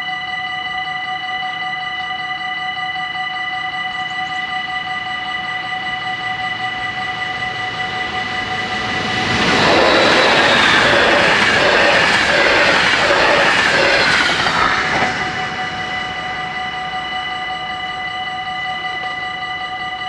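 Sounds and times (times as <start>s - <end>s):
falling whine of train: 0.0s - 20.0s
level crossing warning bells: 0.0s - 20.0s
electric train passing: 3.5s - 20.0s.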